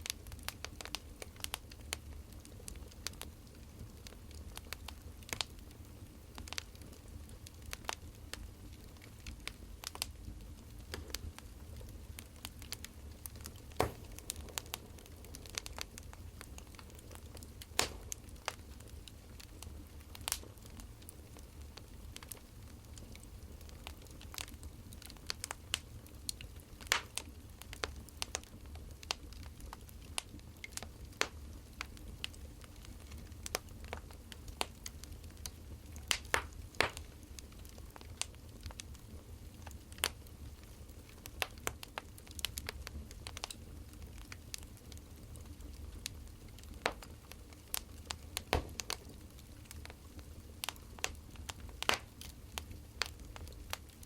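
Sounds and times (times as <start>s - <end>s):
firewood crackling and popping: 0.0s - 54.0s
low rumble of fire: 0.0s - 54.0s.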